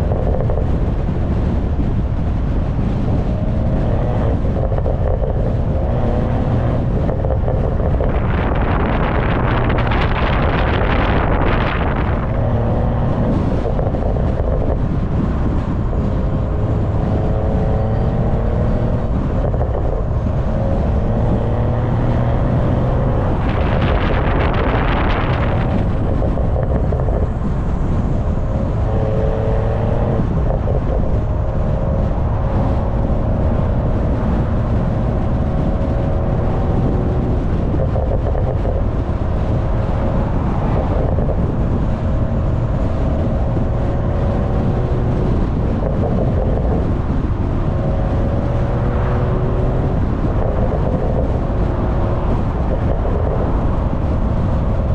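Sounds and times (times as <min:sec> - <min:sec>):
car engine while driving: 0:00.0 - 0:54.9
rush of noise: 0:00.0 - 0:54.9
wind buffeting on microphone: 0:00.0 - 0:54.9.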